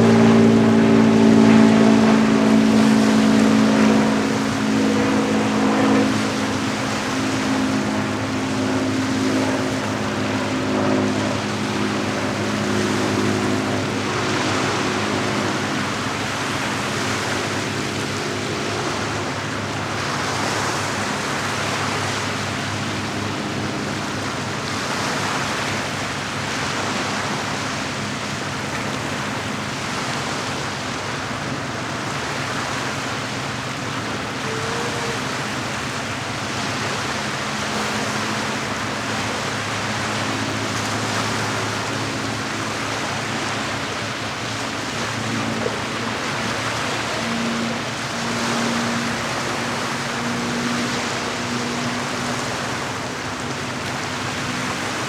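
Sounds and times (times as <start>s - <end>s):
boat engine humming: 0.0s - 55.0s
lake waves washing in: 0.0s - 55.0s.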